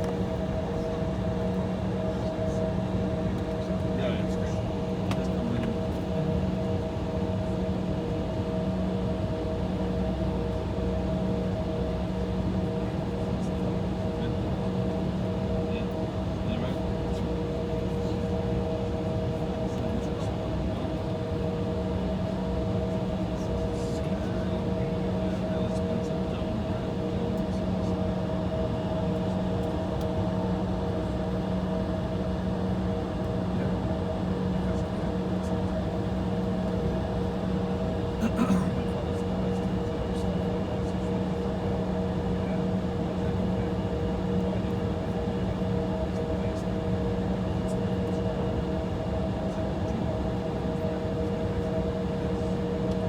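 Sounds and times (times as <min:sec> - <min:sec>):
airliner cabin hum: 0:00.0 - 0:10.6, 0:11.4 - 0:53.0
jet engines idling: 0:00.0 - 0:53.0.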